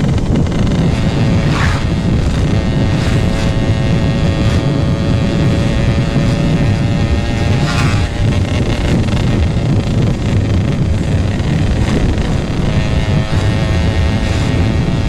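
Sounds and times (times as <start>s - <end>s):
two-stroke motorcycle engine running: 0.0s - 15.0s
wind noise on microphone: 0.0s - 15.0s.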